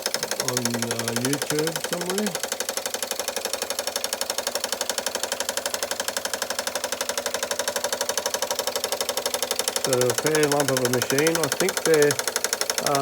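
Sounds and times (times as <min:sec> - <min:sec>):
toy steam engine running fast: 0:00.0 - 0:13.0.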